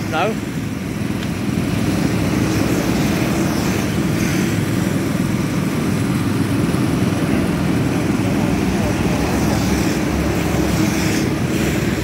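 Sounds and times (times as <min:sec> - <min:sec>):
go-kart engines droning: 0:00.0 - 0:12.0.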